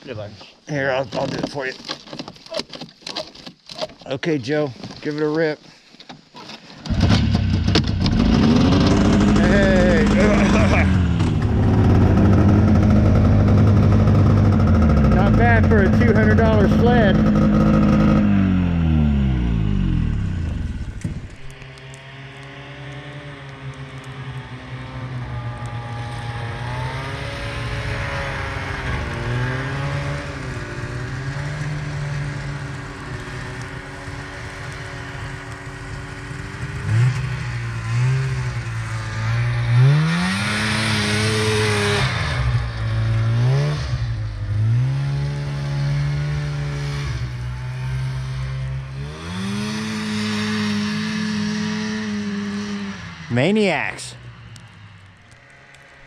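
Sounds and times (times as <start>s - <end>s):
snowmobile engine revving: 6.9s - 54.3s.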